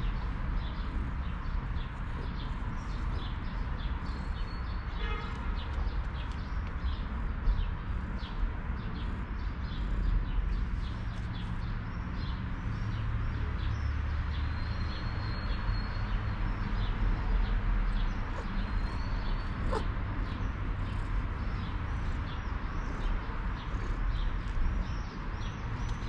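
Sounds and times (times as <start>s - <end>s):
low outdoor rumble: 0.0s - 26.0s
small birds chirping: 0.0s - 26.0s.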